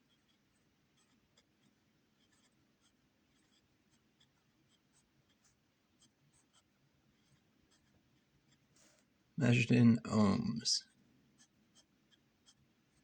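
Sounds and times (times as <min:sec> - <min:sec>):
pen scratching on paper: 0:00.0 - 0:08.9, 0:11.4 - 0:13.0.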